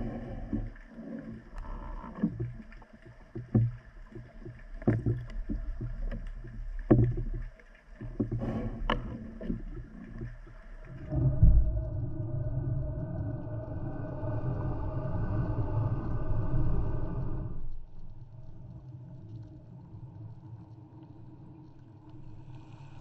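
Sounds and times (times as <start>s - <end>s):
underwater rumble of moving water: 0.0s - 23.0s.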